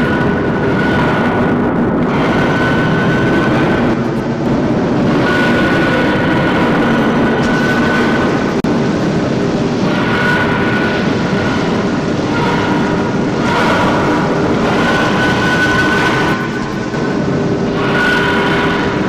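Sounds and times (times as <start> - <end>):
steady rushing roar: 0.0 - 19.0.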